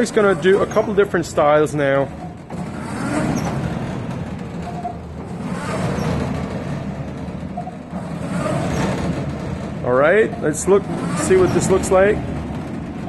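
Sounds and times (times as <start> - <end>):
rowing machine whirring: 0.0 - 13.0.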